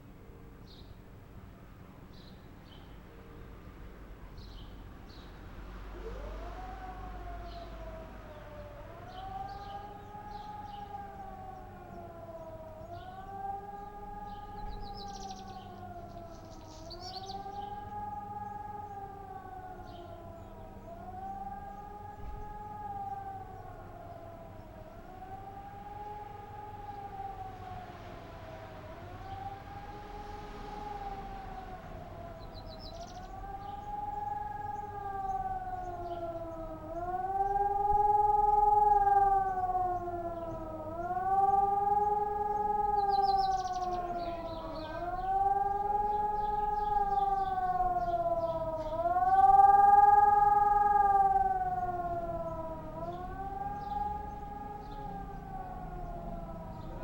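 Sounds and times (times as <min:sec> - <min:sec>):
rising and falling siren wail: 0:05.7 - 0:57.0.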